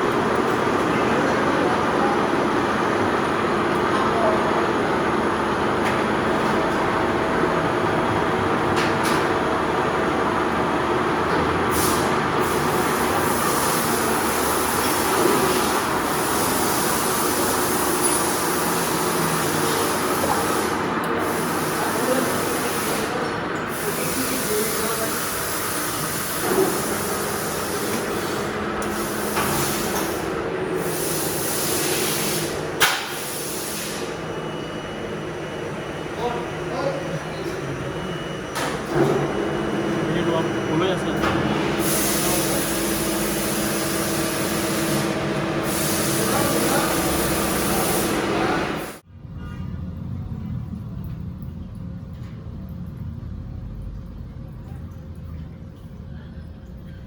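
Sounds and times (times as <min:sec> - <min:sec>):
metal lathe running: 0:00.0 - 0:49.0.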